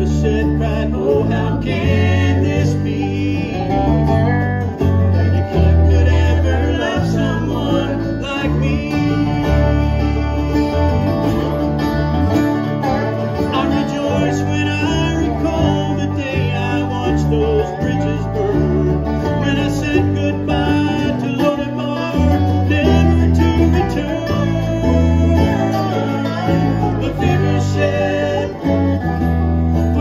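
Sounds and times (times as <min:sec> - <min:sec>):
banjo: 0:00.0 - 0:30.0
bluegrass band playing: 0:00.0 - 0:30.0.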